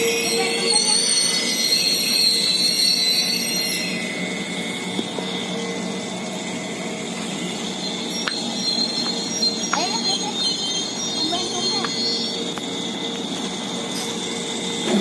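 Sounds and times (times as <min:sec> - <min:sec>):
train rolling rumble: 0:00.0 - 0:15.0
train wheels squealing on rails: 0:00.0 - 0:15.0.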